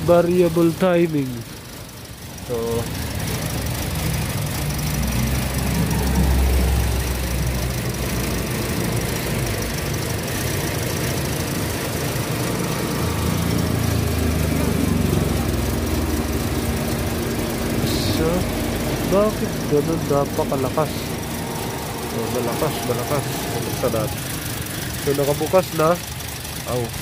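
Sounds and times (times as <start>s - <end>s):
car engine idling roughly: 0.0s - 27.0s.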